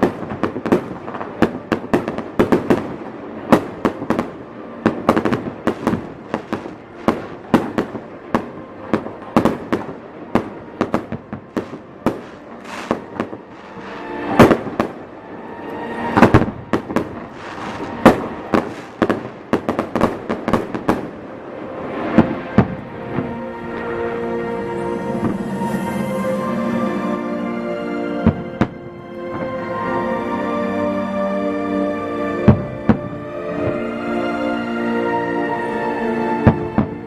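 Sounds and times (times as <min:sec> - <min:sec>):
fireworks bursting: 0:00.0 - 0:29.5, 0:32.5 - 0:34.0.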